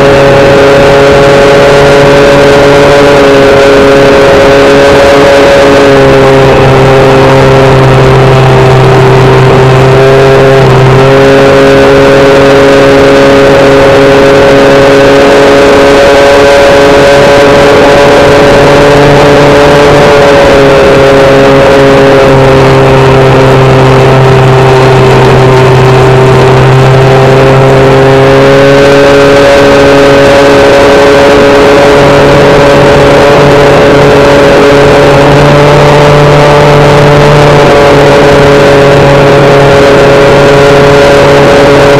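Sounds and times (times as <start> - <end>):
model plane motor whine: 0.0 - 41.9
rushing noise: 0.0 - 41.9.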